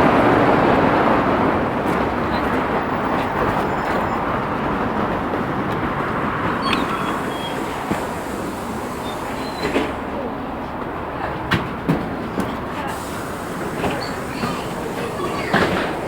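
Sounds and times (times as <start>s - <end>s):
bus engine running: 0.0s - 16.0s
road noise: 0.0s - 16.0s.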